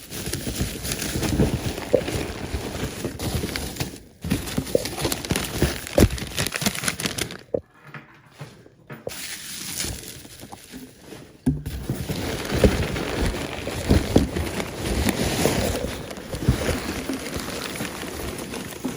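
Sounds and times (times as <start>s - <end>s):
packaging rustling and crinkling: 0.0s - 8.2s, 9.1s - 18.9s.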